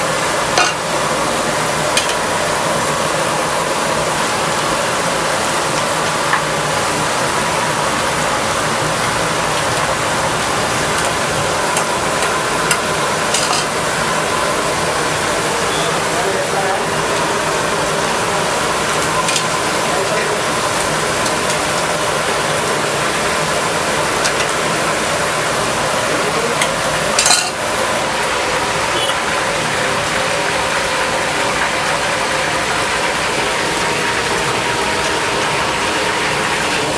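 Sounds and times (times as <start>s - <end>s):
oil sizzling: 0.0s - 36.9s.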